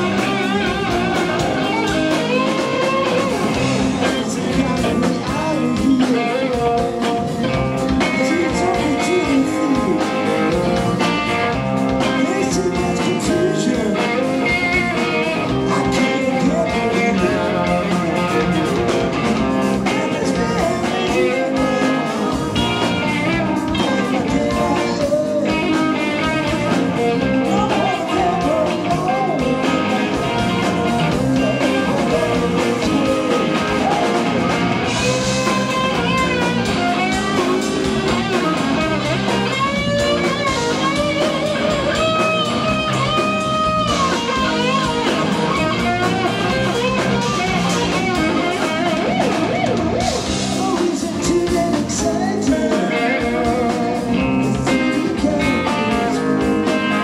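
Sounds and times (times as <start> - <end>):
electric guitar lead: 0.0 - 57.0
rock band playing: 0.0 - 57.0.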